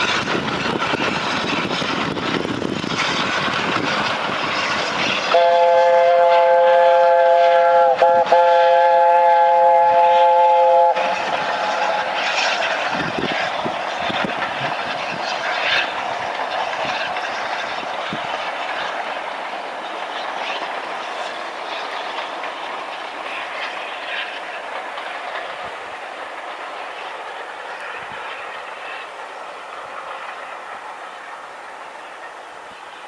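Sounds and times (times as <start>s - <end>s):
train wheels clattering over rails: 0.0s - 33.0s.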